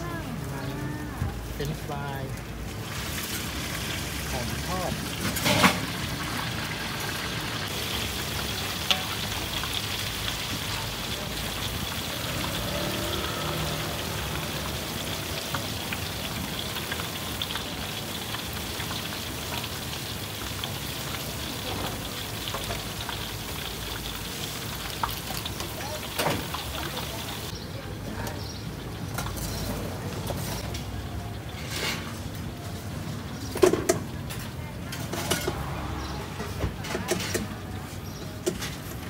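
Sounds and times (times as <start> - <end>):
potatoes sizzling in hot oil: 1.4 - 33.6.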